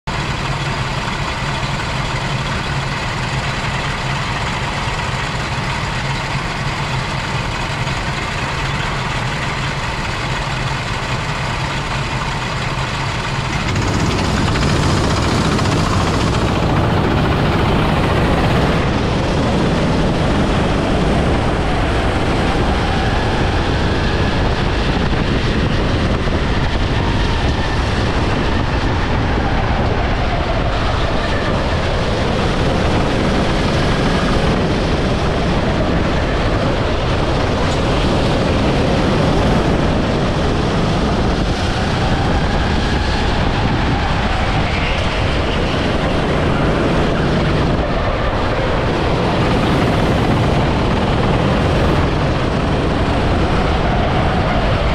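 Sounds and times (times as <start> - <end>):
go-kart engines: 0.0 - 54.9.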